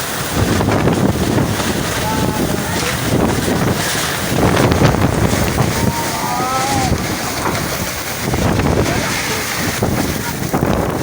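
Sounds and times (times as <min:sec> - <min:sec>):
storm wind buffeting microphone: 0:00.0 - 0:11.0.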